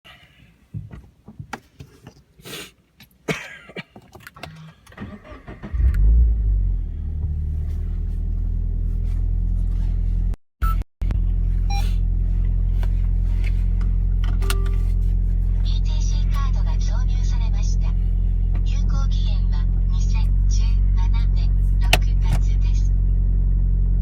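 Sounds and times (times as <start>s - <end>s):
car engine starting and idling: 4.2s - 24.0s.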